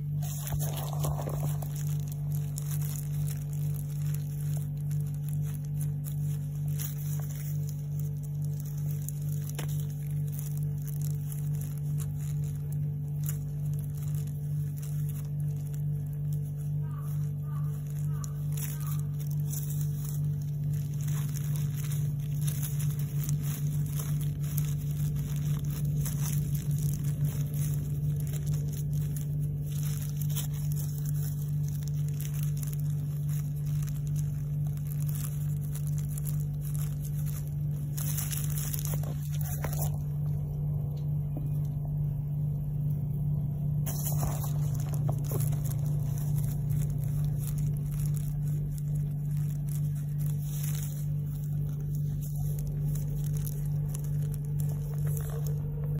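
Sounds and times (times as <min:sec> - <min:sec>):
faint crinkling and crackling: 0:00.0 - 0:55.9
rustling and scraping in soil: 0:00.0 - 0:55.9
steady low hum: 0:00.0 - 0:55.9.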